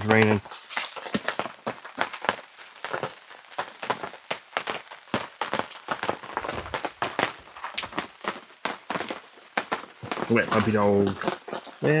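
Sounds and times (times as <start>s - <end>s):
rain dripping and tapping: 0.0s - 12.0s.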